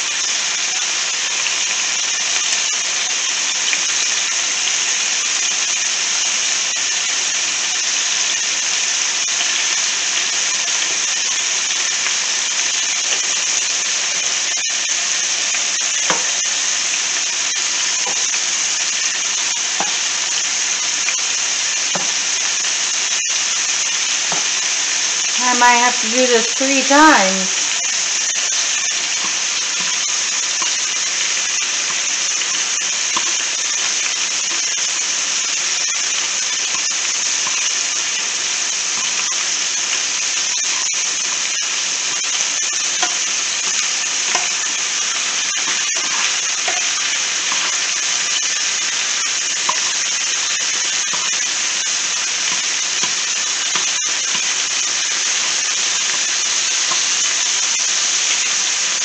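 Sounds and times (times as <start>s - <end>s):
chicken sizzling in oil: 0.0s - 59.0s.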